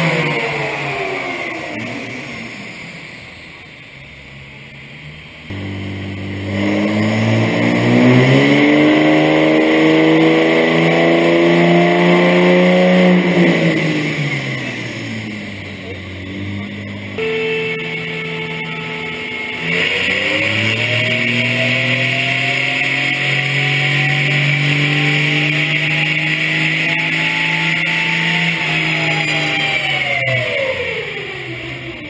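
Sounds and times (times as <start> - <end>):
diesel truck engine under load: 0.0 - 17.2, 18.8 - 32.0
quieter engine winding down: 0.0 - 32.0.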